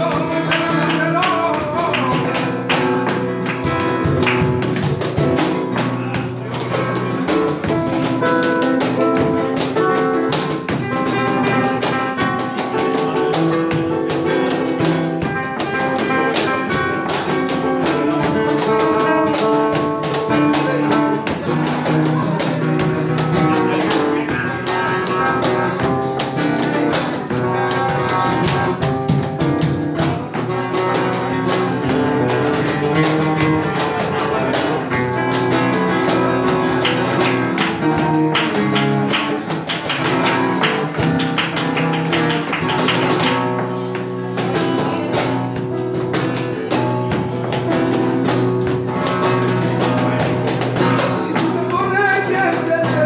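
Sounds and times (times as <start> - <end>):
cajon drum: 0.0 - 53.0
flamenco guitar strumming: 0.0 - 53.0
hand-clapping: 0.0 - 53.0.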